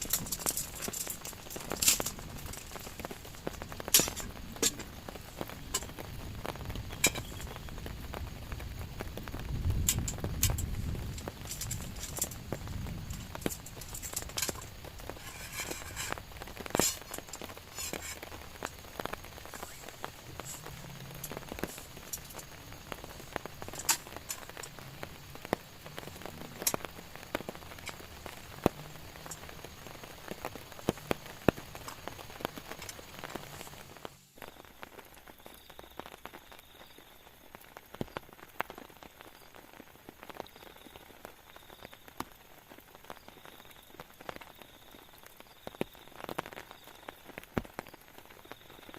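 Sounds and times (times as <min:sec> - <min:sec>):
rain pattering: 0:00.0 - 0:48.9.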